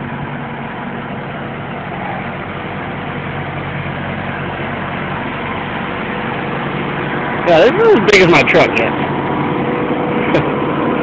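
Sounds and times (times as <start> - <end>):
refrigeration unit diesel engine drone: 0.0 - 11.0.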